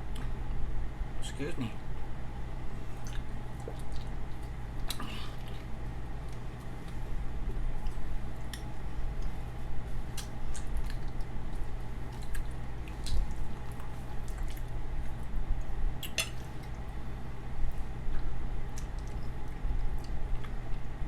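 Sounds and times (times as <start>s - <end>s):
steady low hum: 0.0s - 21.0s
wet chewing of food: 2.8s - 17.0s, 17.7s - 21.0s.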